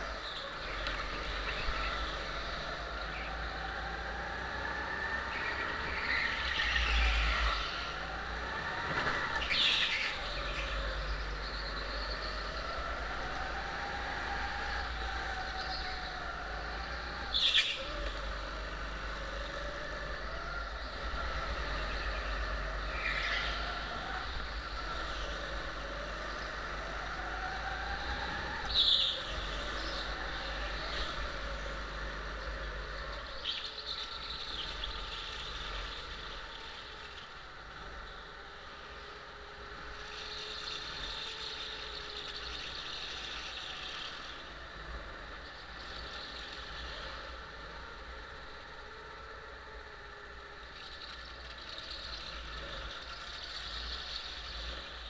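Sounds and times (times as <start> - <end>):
go-kart engine running hard: 0.0 - 55.0.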